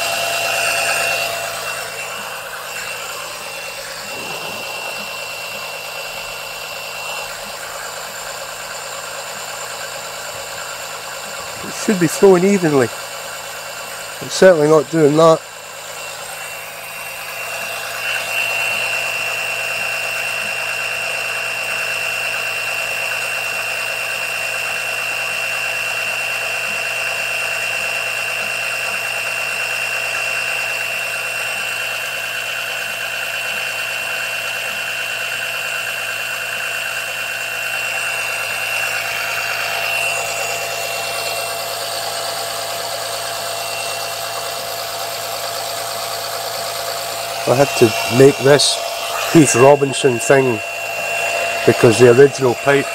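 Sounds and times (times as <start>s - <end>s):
oil suction pump whining: 0.0s - 52.9s.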